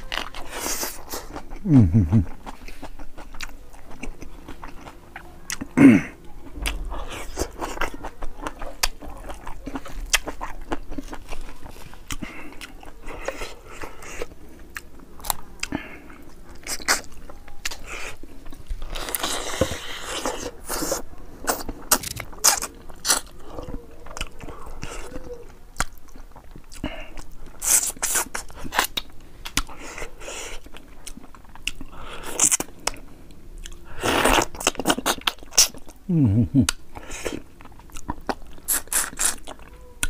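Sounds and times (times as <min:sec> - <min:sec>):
man chewing and lip smacking: 0:00.0 - 0:40.0.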